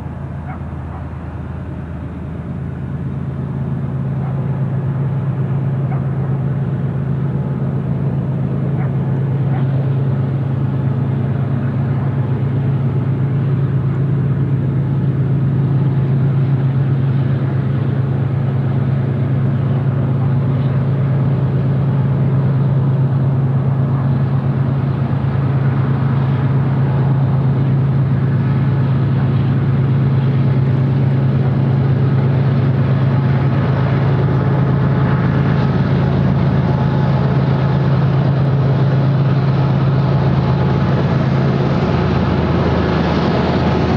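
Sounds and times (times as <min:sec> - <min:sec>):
diesel locomotive engine drone: 0:00.0 - 0:43.9.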